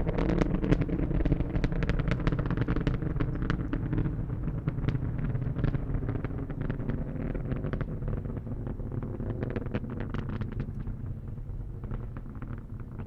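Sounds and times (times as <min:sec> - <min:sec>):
rocket exhaust rumble and crackle: 0:00.0 - 0:13.0.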